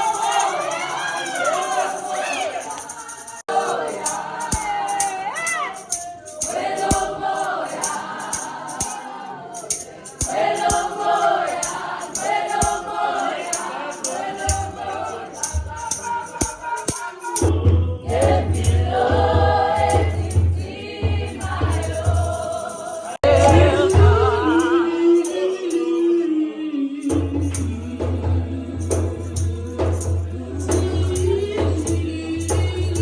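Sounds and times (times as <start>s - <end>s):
light percussion: 0.0s - 26.0s, 27.0s - 33.0s
choir singing: 0.0s - 33.0s.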